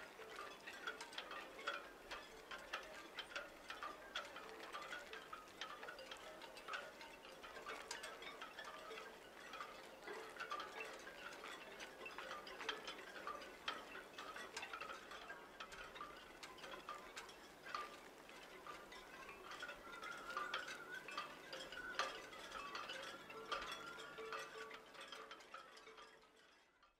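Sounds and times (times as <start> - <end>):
tinkling chime-like notes: 0.1 - 26.9.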